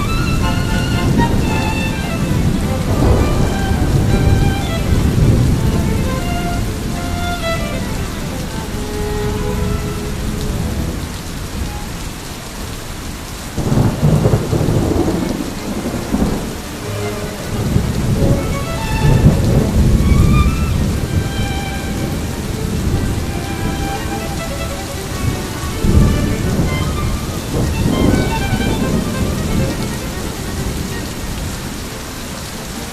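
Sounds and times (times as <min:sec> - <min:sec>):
thunder rolling: 0:00.0 - 0:11.7, 0:13.6 - 0:31.6
heavy rain falling: 0:00.0 - 0:32.9.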